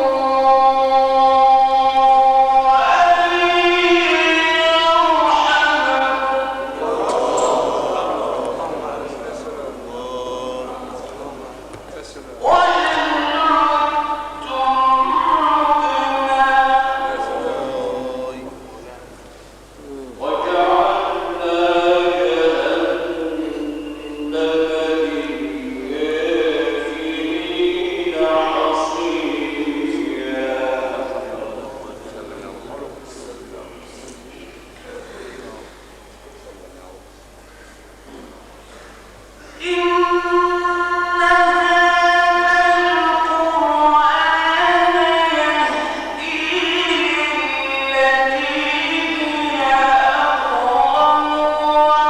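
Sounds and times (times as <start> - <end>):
man chanting melodic recitation: 0.0 - 37.6, 39.6 - 52.0.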